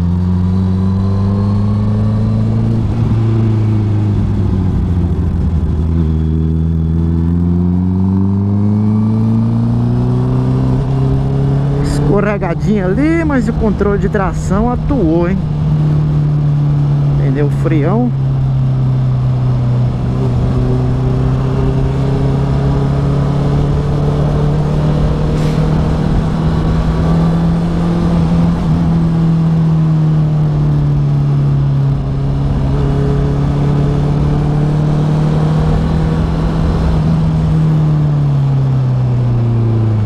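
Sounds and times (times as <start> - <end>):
motorcycle engine and exhaust: 0.0 - 40.0.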